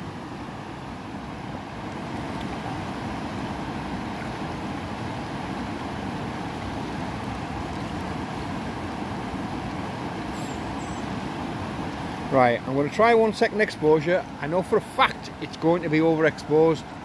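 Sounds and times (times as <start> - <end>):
river flowing over stones: 0.0 - 17.0.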